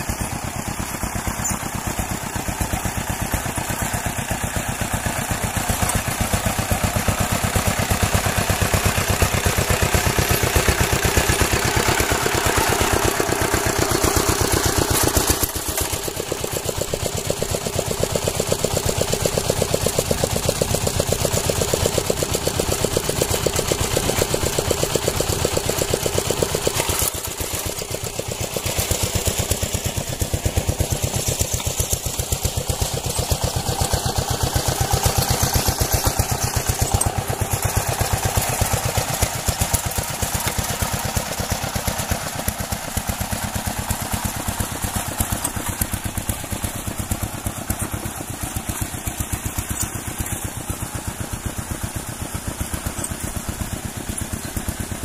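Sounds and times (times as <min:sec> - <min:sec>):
engine running with rapid pulsing: 0:00.0 - 0:55.0.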